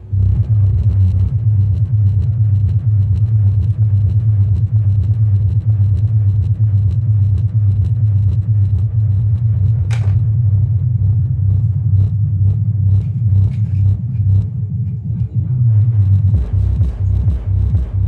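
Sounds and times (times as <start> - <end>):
subwoofer bass rumble: 0.0 - 18.0.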